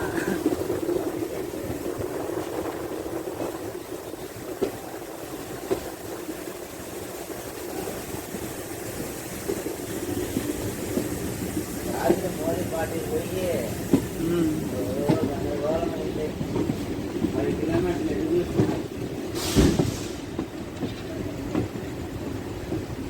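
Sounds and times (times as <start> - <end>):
train rumbling along track: 0.0 - 23.0.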